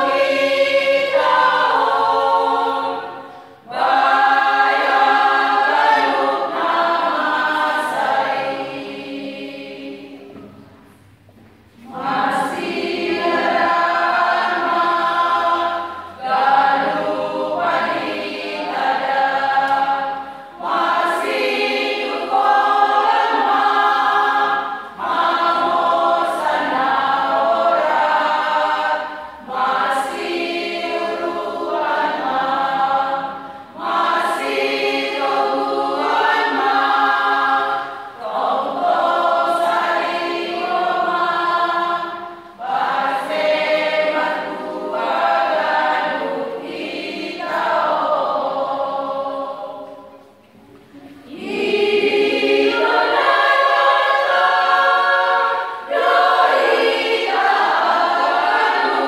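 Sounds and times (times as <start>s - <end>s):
women's choir singing a hymn: 0.0s - 59.0s.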